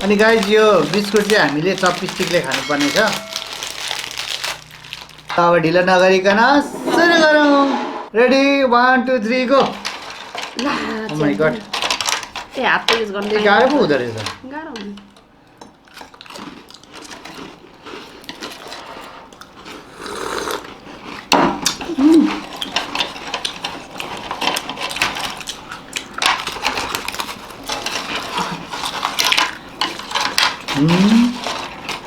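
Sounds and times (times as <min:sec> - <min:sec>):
chopsticks clicking and clattering: 0:00.0 - 0:05.4, 0:09.6 - 0:19.9, 0:20.6 - 0:32.0.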